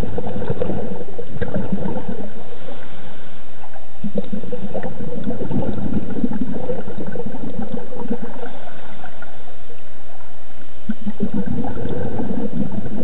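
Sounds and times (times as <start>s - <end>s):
underwater bubbles gurgling: 0.0s - 13.0s.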